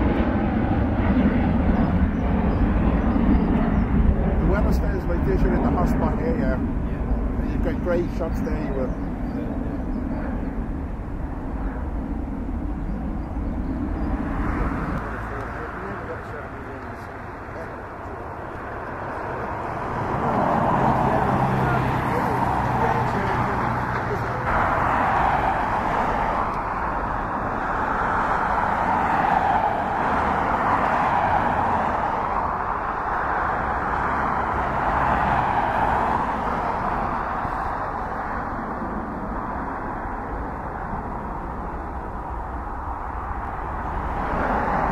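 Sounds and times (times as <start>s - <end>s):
jet engines rumbling: 0.0s - 44.9s.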